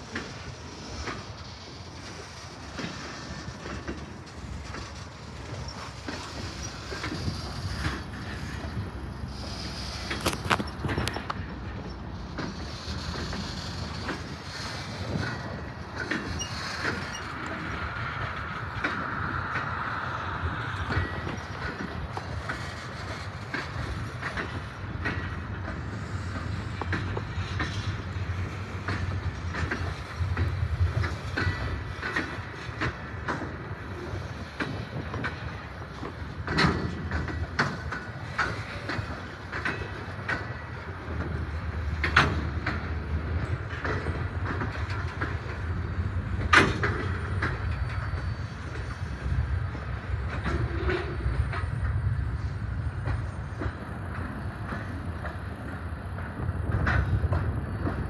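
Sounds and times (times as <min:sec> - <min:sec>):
freight train rolling past: 0:00.0 - 0:58.0
loud train clatter: 0:00.0 - 0:58.0
wheels clicking over rail joints: 0:00.0 - 0:58.0.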